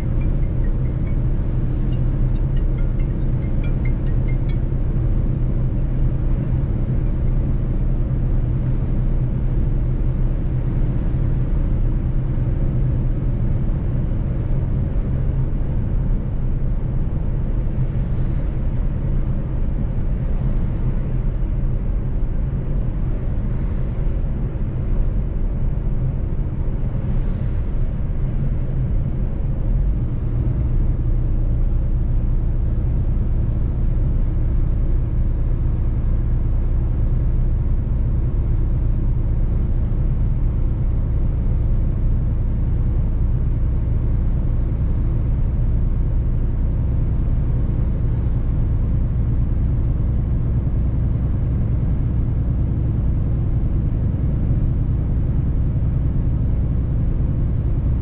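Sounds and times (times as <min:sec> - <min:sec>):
road rumble: 0:00.0 - 0:58.0
truck diesel engine droning: 0:00.0 - 0:58.0.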